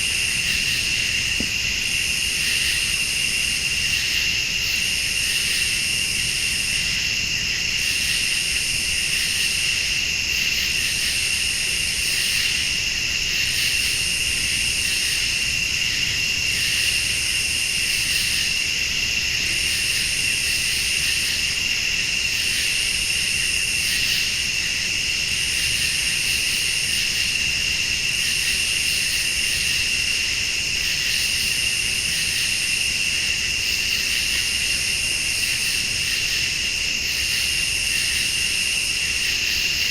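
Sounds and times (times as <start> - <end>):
crickets trilling: 0.0 - 39.9
insects buzzing: 0.0 - 39.9.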